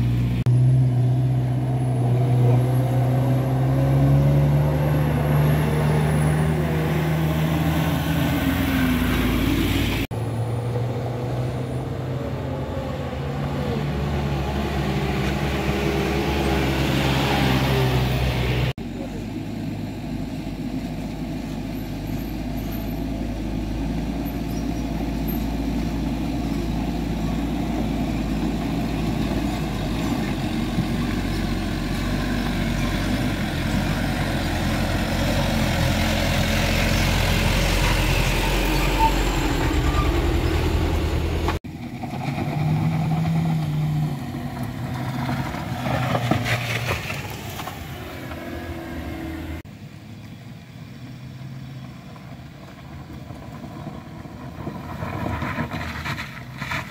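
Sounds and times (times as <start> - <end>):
heavy truck engine under load: 0.0 - 49.7
vehicle engine: 0.0 - 56.9.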